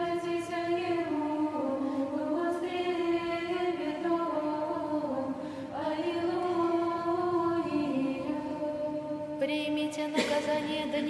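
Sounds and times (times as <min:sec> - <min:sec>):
choir chanting: 0:00.0 - 0:09.5.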